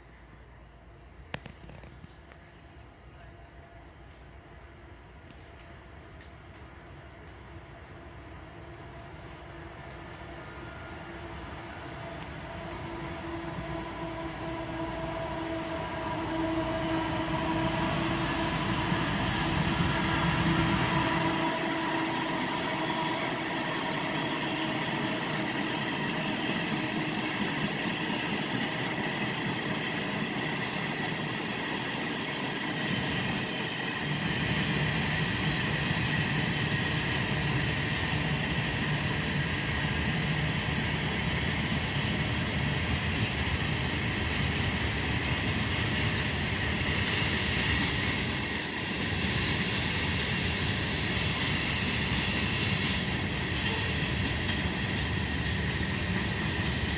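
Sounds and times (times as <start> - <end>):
freight train cars rolling: 0.9 - 56.9.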